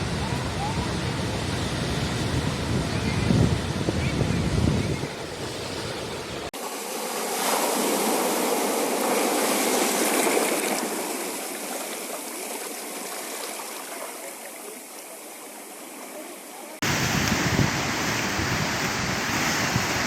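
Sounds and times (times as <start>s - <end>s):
sea waves on rocky shore: 0.0s - 20.0s.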